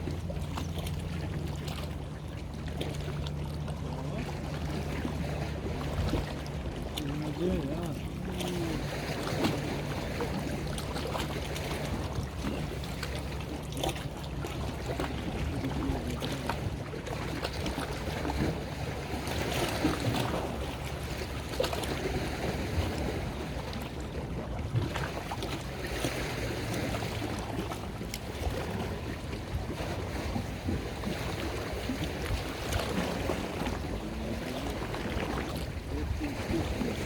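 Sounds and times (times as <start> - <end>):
boat engine humming: 0.0 - 37.0
water sloshing and splashing: 0.0 - 37.0
wind buffeting microphone: 0.0 - 37.0.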